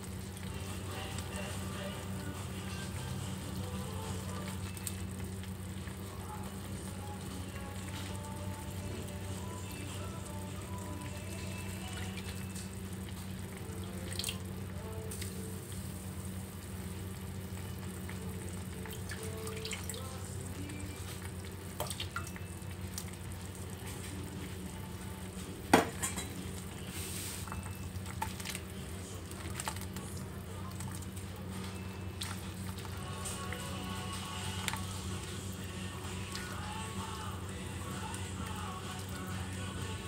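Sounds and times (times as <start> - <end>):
soup cooking in saucepan: 0.0 - 40.0.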